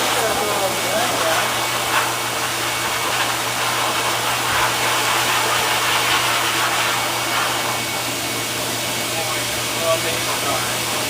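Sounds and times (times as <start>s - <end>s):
dryer blowing air: 0.0s - 11.0s.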